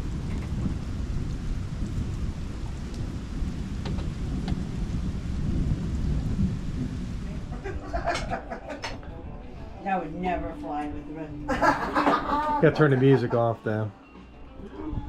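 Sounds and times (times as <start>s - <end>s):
low rumble of thunder: 0.0s - 12.2s
rain falling: 0.0s - 13.8s.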